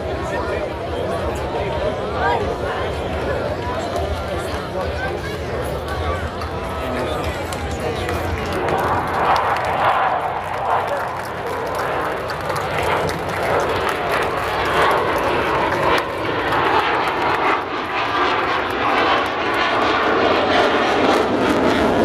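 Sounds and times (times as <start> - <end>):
aircraft engine rushing: 0.0 - 22.0.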